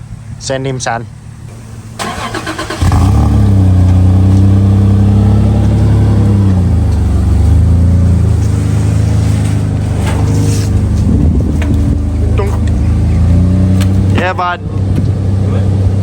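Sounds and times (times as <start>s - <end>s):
car engine revving high: 1.5s - 16.0s.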